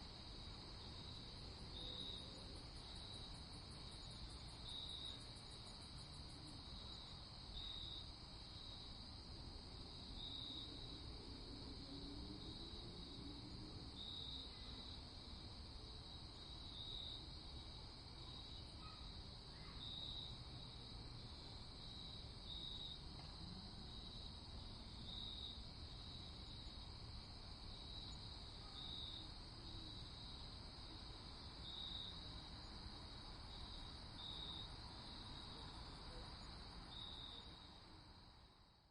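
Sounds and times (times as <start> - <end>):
crickets trilling: 0.2 - 38.4.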